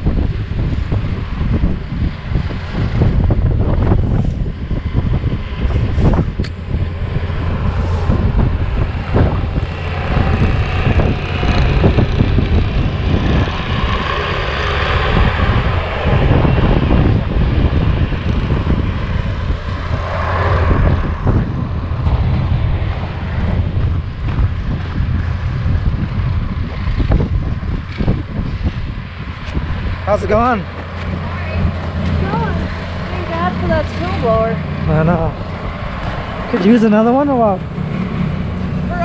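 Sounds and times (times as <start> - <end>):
diesel engine under load: 0.0 - 39.0
snowblower whirring: 0.0 - 39.0.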